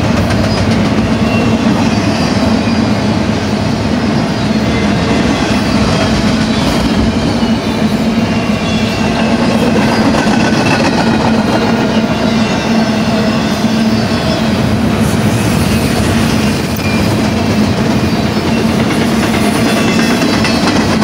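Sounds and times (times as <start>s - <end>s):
freight train rolling past: 0.0s - 21.0s
wheels clickety-clack on rail: 0.0s - 21.0s.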